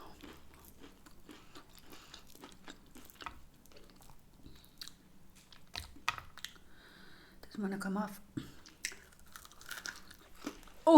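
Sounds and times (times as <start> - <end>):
chewing crunchy food: 0.0 - 6.7, 8.4 - 10.8.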